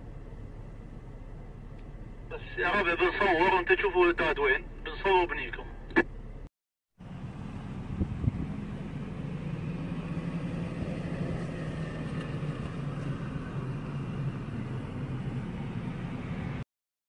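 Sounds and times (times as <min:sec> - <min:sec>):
vehicle engine idling: 0:00.0 - 0:16.6.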